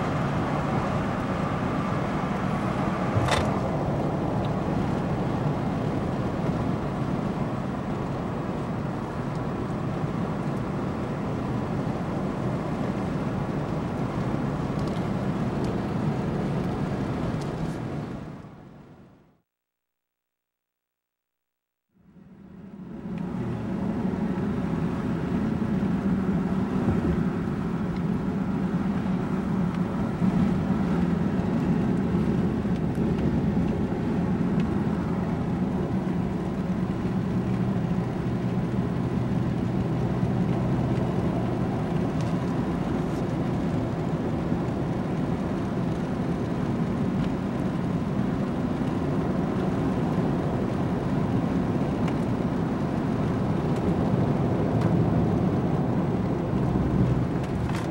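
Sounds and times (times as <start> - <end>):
car engine and road noise: 0.0 - 19.5, 21.9 - 57.9.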